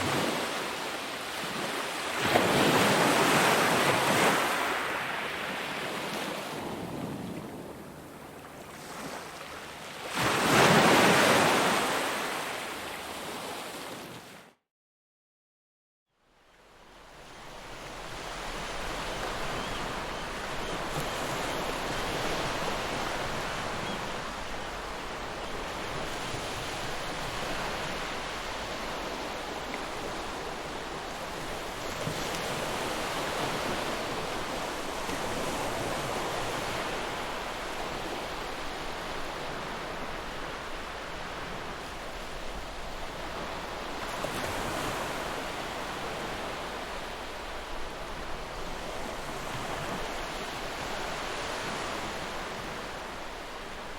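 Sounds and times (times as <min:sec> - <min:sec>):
ocean waves washing ashore: 0:00.0 - 0:14.4, 0:16.5 - 0:53.9.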